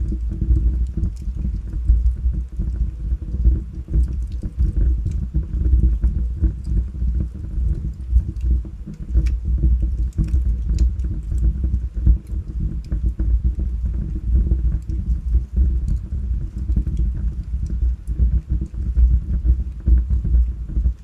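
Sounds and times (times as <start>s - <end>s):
fire flames rumbling: 0.0s - 21.0s
logs crackling and popping: 0.0s - 21.0s.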